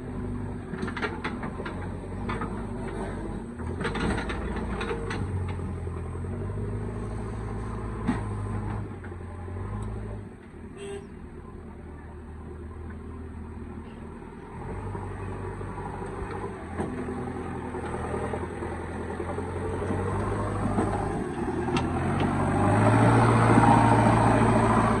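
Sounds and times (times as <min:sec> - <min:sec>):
heavy diesel engine running: 0:00.0 - 0:09.5, 0:11.8 - 0:25.0.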